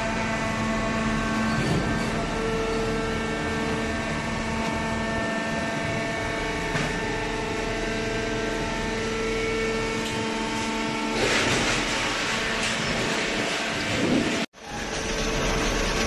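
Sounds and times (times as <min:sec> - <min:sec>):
hydraulic machine hum: 0:00.0 - 0:16.0.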